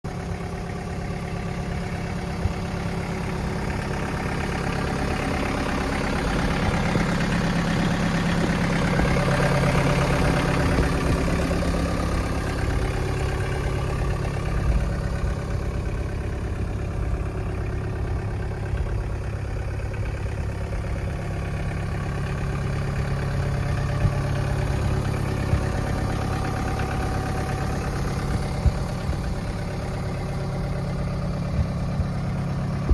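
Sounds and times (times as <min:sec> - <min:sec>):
diesel engine running: 0:00.1 - 0:32.9.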